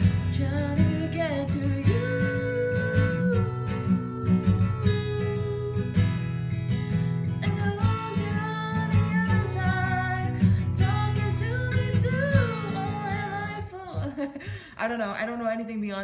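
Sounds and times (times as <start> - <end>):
woman singing: 0.0 - 6.4, 7.3 - 15.7
acoustic guitar strumming chords: 0.0 - 14.1.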